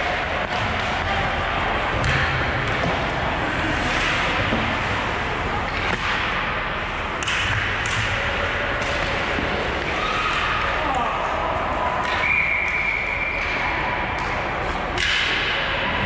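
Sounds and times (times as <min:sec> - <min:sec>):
hockey sticks and puck clacking: 0:00.0 - 0:16.0.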